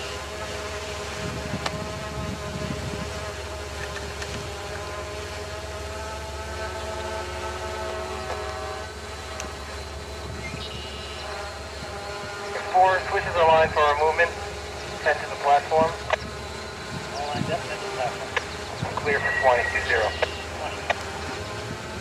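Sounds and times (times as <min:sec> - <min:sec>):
whining tone: 0:01.3 - 0:22.0.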